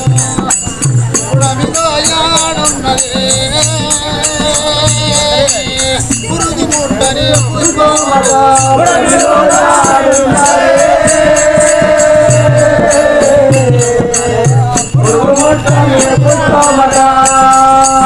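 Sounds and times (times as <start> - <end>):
quick metallic beat: 0.0 - 18.0.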